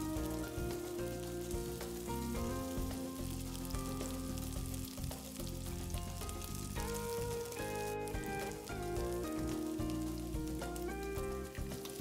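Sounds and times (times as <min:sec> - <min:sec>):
background music with held notes: 0:00.0 - 0:12.0
chicken sizzling in oil: 0:00.0 - 0:12.0.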